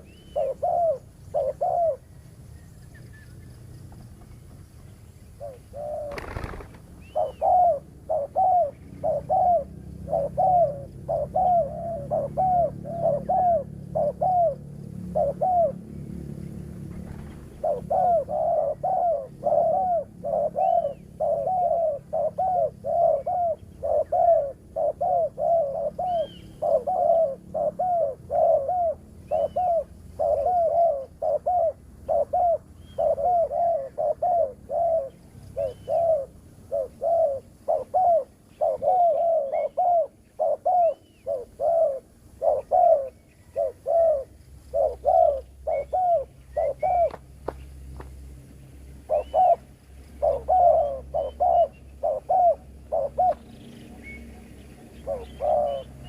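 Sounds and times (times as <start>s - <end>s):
doves cooing: 0.0s - 2.2s, 5.3s - 47.2s, 49.0s - 56.0s.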